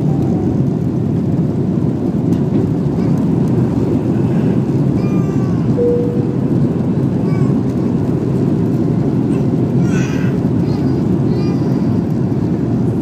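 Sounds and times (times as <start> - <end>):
airliner engines rumbling: 0.0 - 13.0.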